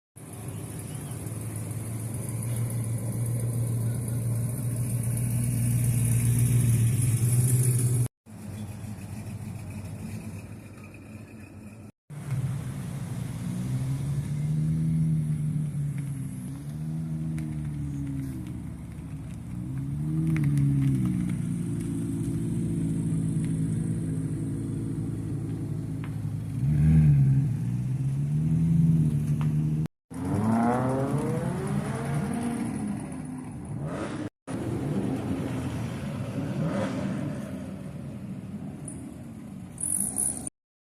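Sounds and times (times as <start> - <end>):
car engine idling and revving: 0.2 - 40.5.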